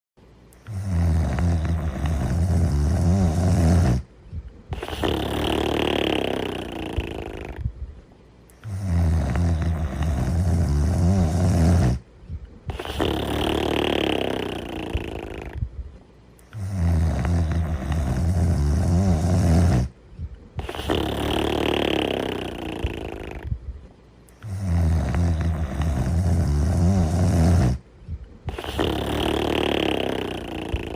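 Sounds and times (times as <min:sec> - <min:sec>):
person snoring: 0:00.6 - 0:04.1, 0:04.7 - 0:07.7, 0:08.6 - 0:12.0, 0:12.7 - 0:15.6, 0:16.4 - 0:20.0, 0:20.6 - 0:23.6, 0:24.3 - 0:27.8, 0:28.5 - 0:30.9.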